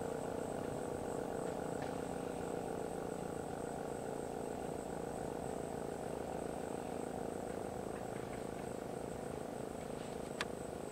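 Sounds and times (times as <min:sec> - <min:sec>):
crickets chirping: 0:00.0 - 0:10.9
low steady hum: 0:00.0 - 0:10.9
pulsing insect trill: 0:00.0 - 0:10.9.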